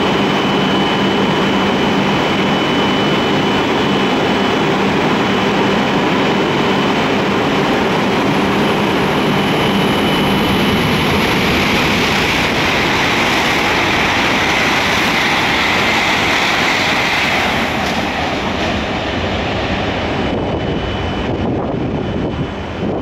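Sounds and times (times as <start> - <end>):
train rushing past: 0.0 - 23.0.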